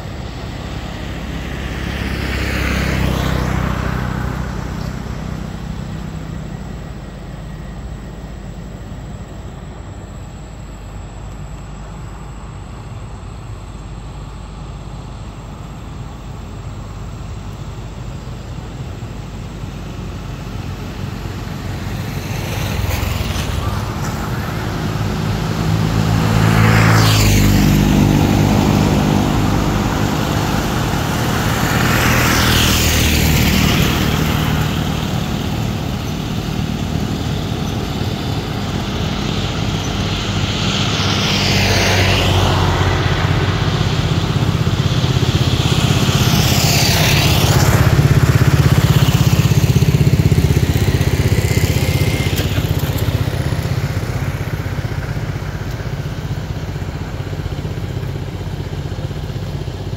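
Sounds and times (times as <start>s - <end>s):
vehicle engines running: 0.0s - 59.9s
vehicles passing by: 0.0s - 59.9s.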